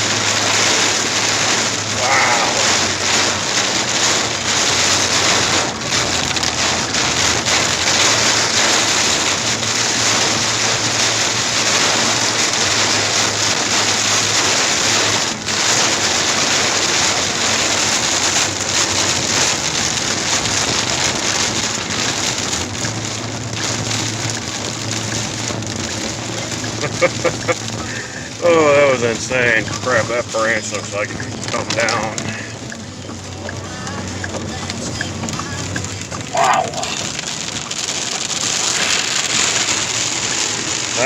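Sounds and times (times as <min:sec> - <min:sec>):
heavy rain on a car roof: 0:00.0 - 0:41.0.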